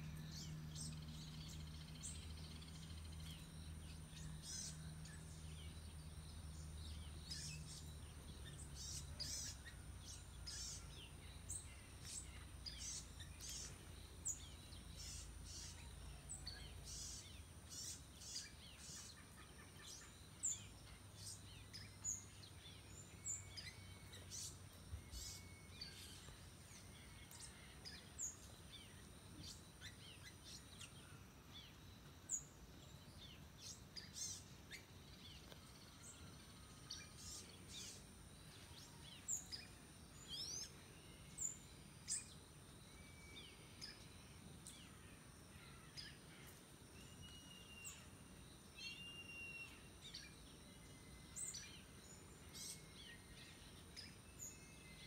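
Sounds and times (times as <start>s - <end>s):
birds chirping: 0.0s - 55.0s
faint high-pitched whine: 0.0s - 55.0s.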